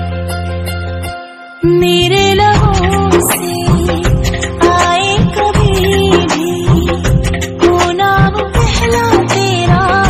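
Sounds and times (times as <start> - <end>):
film song instrumental music: 0.0 - 10.0.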